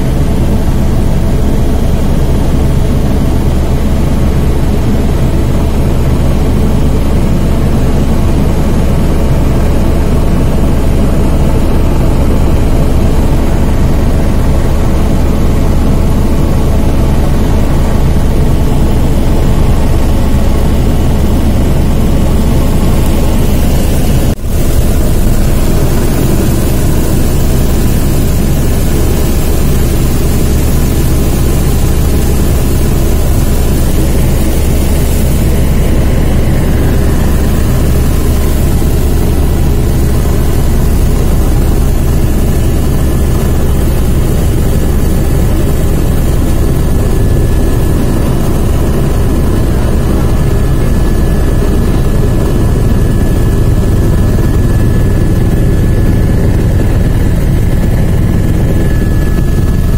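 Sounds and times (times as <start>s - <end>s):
helicopter cabin drone: 0.0s - 59.9s
thin whine: 8.4s - 59.9s.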